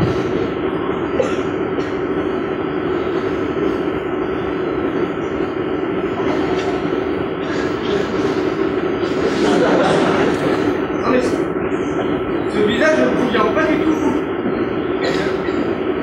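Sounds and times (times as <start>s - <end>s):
steady rumbling with low hum: 0.0s - 16.0s.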